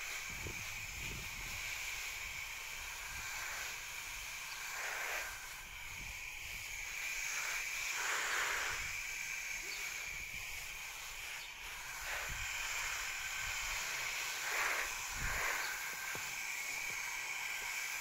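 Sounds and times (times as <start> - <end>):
hose spray splashing on plants: 0.0 - 18.0.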